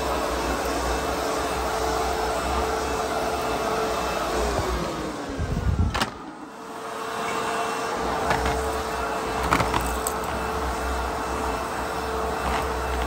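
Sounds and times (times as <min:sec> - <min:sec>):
vacuum motor humming: 0:00.0 - 0:13.0.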